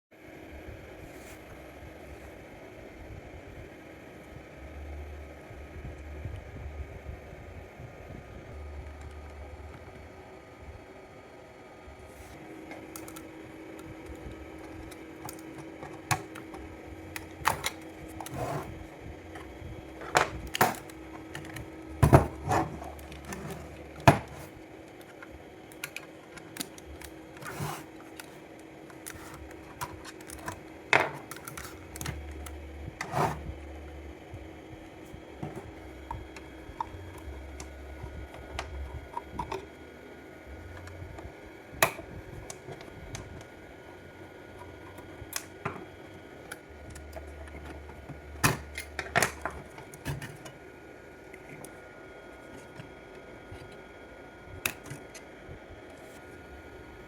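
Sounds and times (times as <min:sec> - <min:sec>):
faint steady hum: 0:00.2 - 0:57.0.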